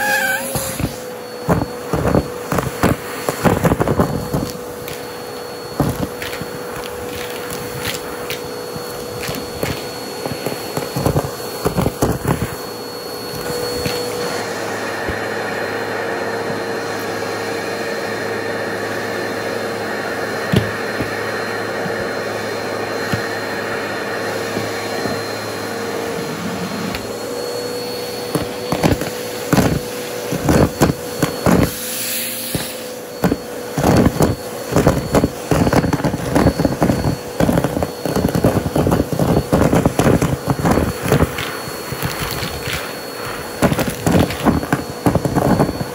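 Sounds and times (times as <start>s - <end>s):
debris crackling in vacuum hose: 0.0s - 45.9s
vacuum cleaner motor whining: 0.0s - 45.9s.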